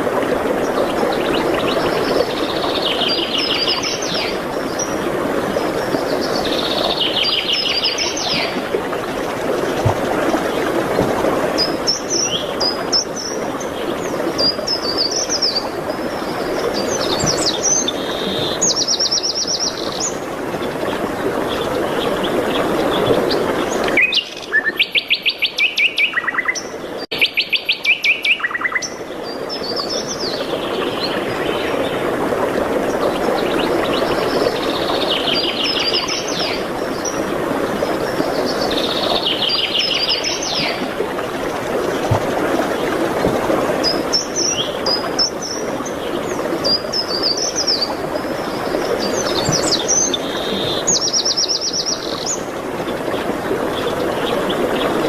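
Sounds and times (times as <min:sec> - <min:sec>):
songbirds singing: 0:00.6 - 0:09.8, 0:11.4 - 0:32.1, 0:32.9 - 0:41.3, 0:43.7 - 0:55.0.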